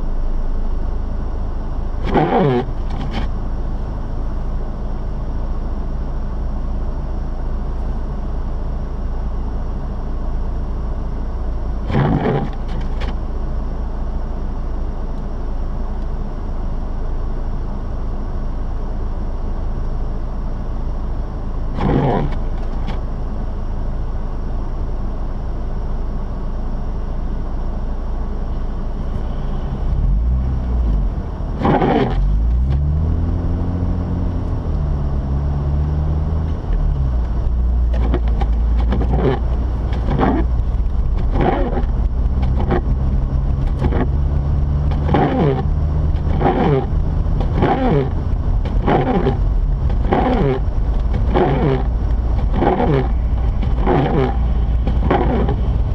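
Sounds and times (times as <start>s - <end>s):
car engine hum: 0.0s - 55.9s.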